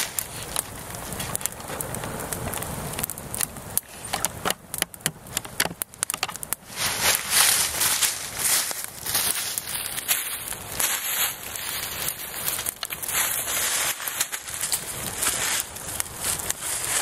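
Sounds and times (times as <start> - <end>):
kindling fire crackling and popping: 0.0 - 17.0.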